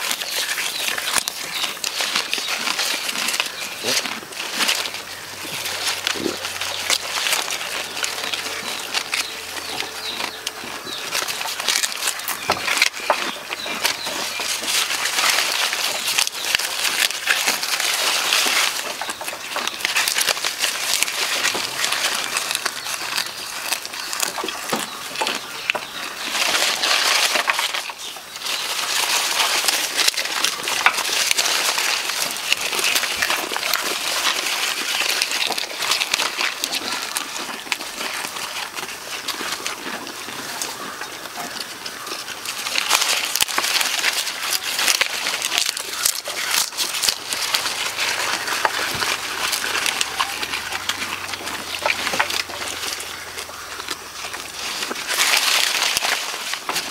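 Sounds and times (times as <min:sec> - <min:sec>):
goats crunching bites: 0:00.0 - 0:56.9
leaves and twigs rustling: 0:00.0 - 0:56.9.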